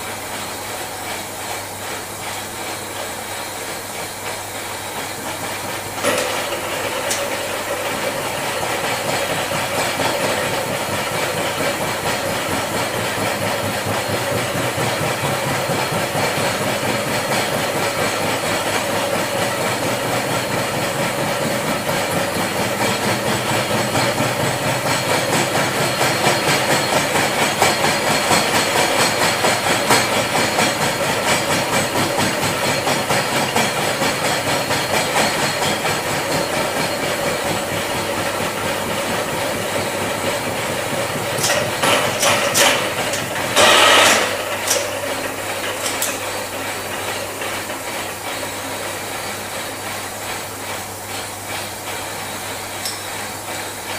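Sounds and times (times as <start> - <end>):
steady machine hum: 0.0 - 53.9
milling cutter chattering through metal: 5.1 - 49.8.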